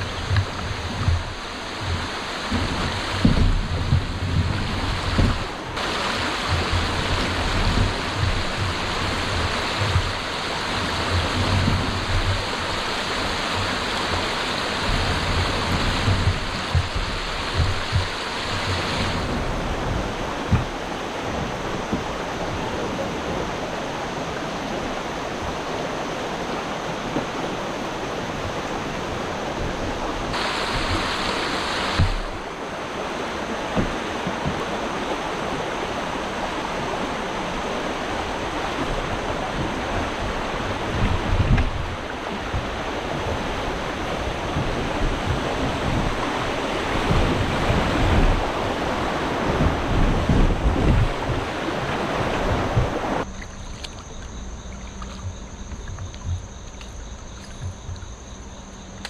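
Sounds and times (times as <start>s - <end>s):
wind buffeting microphone: 0.0s - 53.3s
water rushing: 0.0s - 59.0s.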